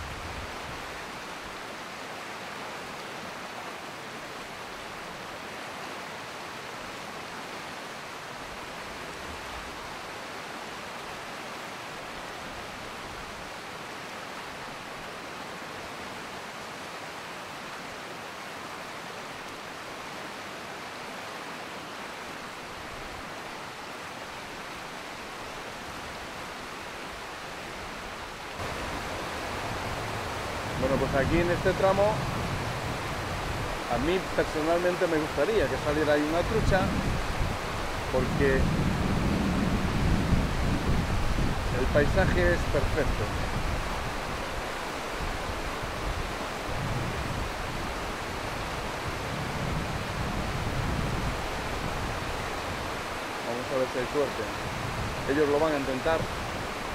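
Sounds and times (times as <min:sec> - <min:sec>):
river water flowing: 0:00.0 - 0:56.9.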